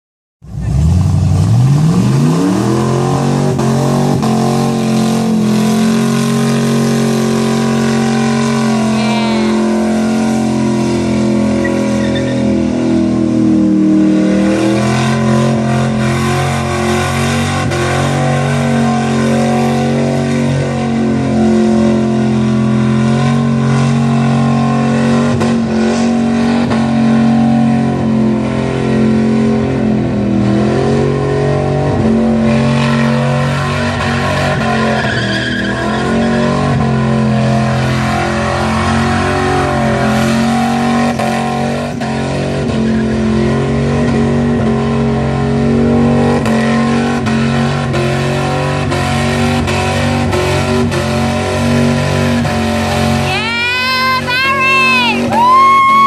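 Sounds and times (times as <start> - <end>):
engine revving hard: 0.6 - 56.0.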